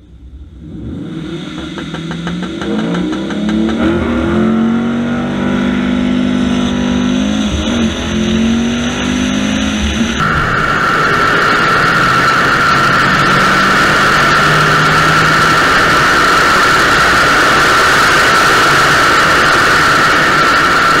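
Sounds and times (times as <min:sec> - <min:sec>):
faint engine drone: 0:00.0 - 0:21.0
wind and road noise: 0:00.0 - 0:21.0.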